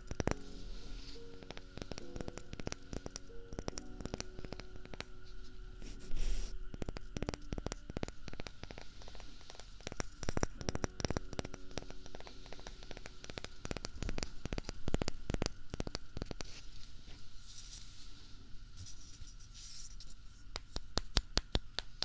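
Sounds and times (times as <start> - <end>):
rapid irregular clicks: 0.0 - 17.3, 19.8 - 22.0
faint steady hum: 0.0 - 22.0.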